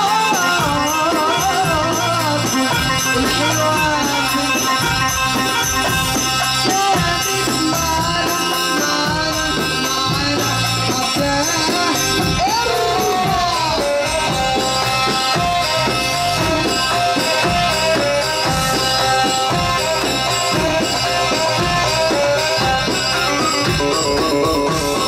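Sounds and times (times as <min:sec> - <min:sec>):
hand drum beat: 0:00.0 - 0:25.0
jingling percussion: 0:00.0 - 0:25.0
sliding melodic lead line: 0:00.0 - 0:25.0.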